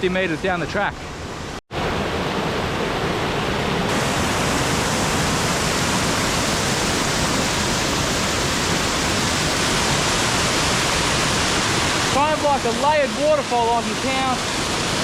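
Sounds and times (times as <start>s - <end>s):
waterfall rushing: 1.8s - 15.0s.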